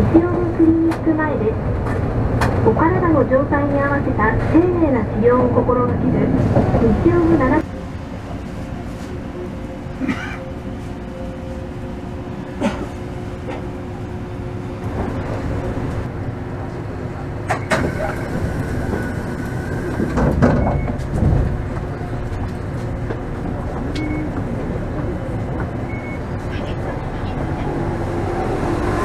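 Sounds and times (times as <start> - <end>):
streetcar hum: 0.0 - 29.0
streetcar rumble: 0.0 - 29.0.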